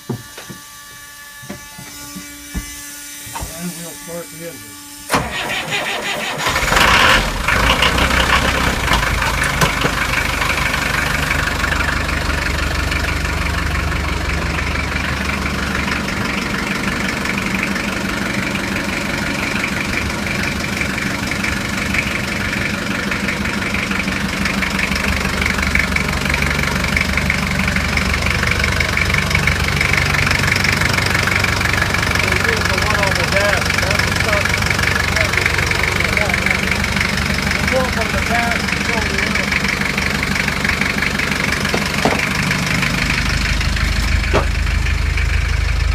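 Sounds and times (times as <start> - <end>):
diesel engine idling: 2.6 - 45.9.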